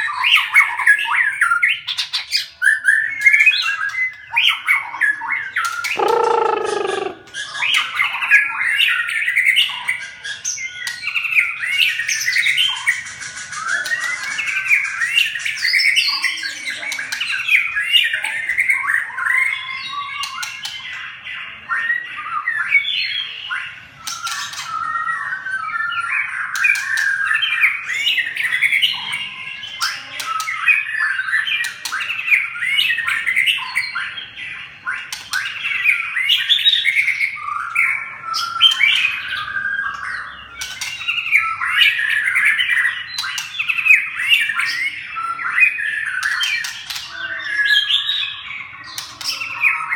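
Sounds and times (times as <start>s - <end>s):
birds squawking and chattering: 0.0s - 49.9s.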